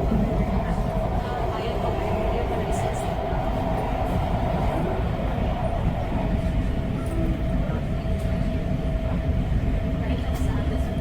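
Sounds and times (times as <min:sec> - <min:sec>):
constant train whine: 0:00.0 - 0:11.0
train wheels rumbling on track: 0:00.0 - 0:11.0.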